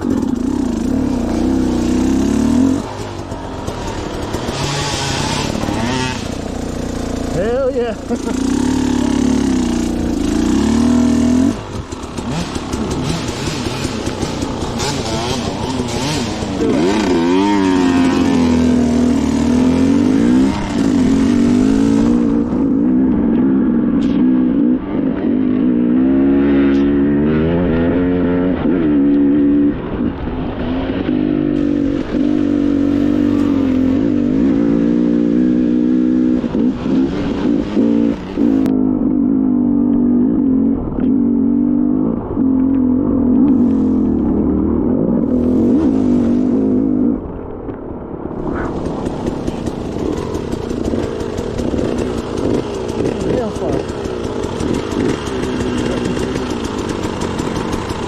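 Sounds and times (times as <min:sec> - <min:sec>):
dirt bike engine revving: 0:00.0 - 0:47.3, 0:48.4 - 0:58.0.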